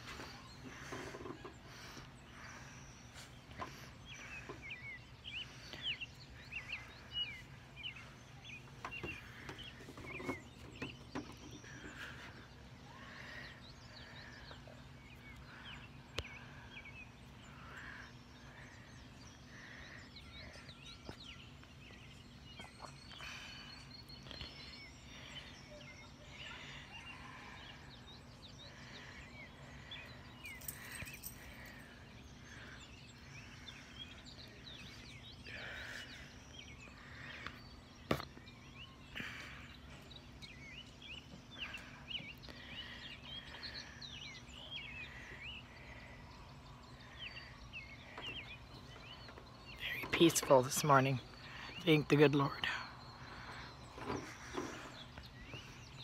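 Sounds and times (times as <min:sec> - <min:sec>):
songbirds chirping: 0:00.0 - 0:56.0
steady low hum: 0:00.0 - 0:56.0.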